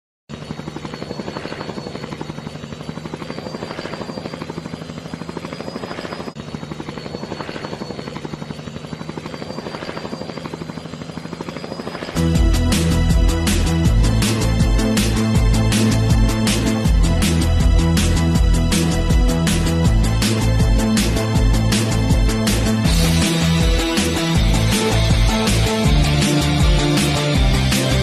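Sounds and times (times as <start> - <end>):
helicopter rotor pulsing: 0.3 - 28.0.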